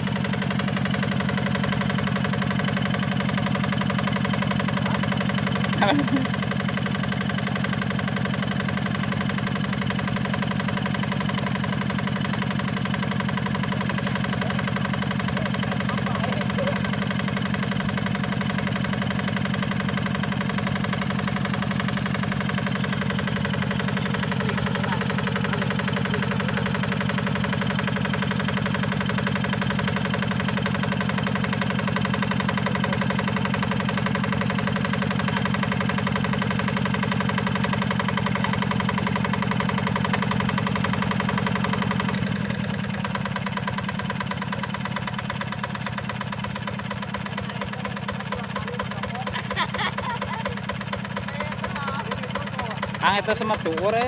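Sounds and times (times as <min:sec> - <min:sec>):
diesel engine running steadily: 0:00.0 - 0:54.0.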